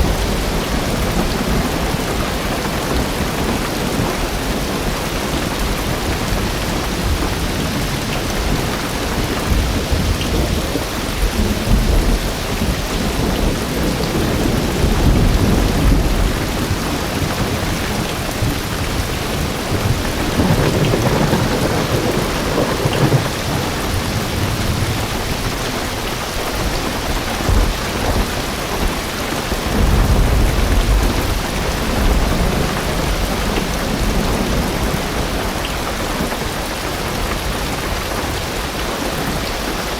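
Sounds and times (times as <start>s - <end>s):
heavy rain on car roof: 0.0s - 39.9s
thunder rumbles: 0.0s - 39.9s.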